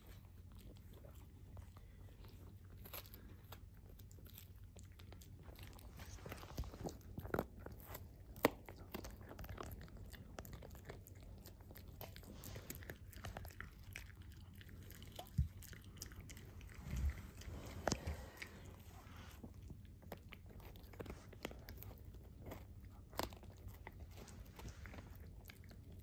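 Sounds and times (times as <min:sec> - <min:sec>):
dog gnawing a chew: 0:00.0 - 0:26.0.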